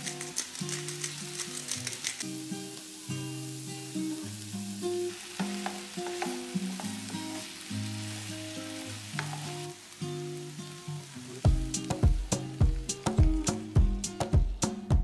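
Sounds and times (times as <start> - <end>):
potatoes and onions sizzling in a pan: 0.0 - 14.9
background music of held notes: 2.4 - 15.0.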